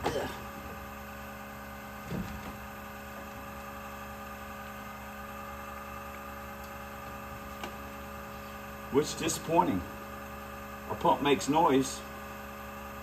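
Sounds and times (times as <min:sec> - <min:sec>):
electric fuel pump humming: 0:00.0 - 0:13.0.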